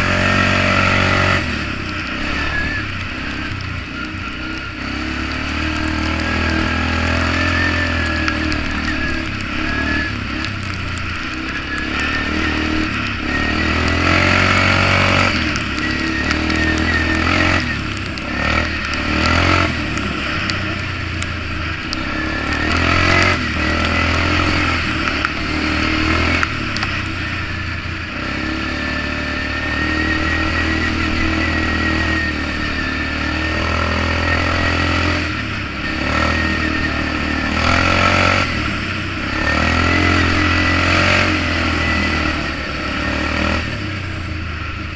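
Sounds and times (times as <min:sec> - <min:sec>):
atv engine revving while riding: 0:00.0 - 0:44.9.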